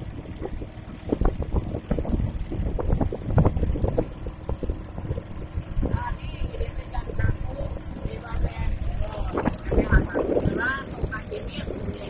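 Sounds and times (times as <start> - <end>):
motorboat engine rumble: 0.0 - 12.0
wind noise: 0.0 - 12.0.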